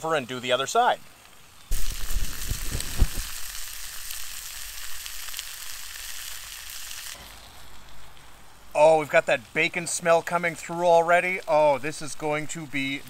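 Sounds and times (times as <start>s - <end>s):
meat sizzling in a skillet: 0.1s - 13.0s.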